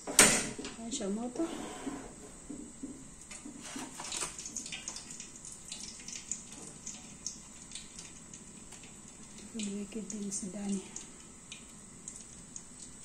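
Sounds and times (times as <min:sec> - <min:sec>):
hot oil sizzling and crackling: 0:02.4 - 0:13.0.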